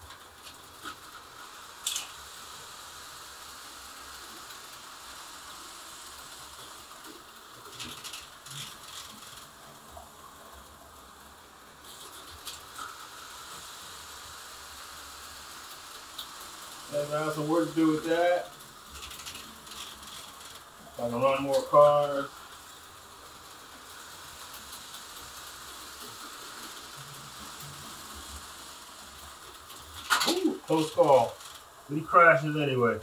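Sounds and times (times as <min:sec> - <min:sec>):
slot car motors whirring: 0:00.2 - 0:33.0.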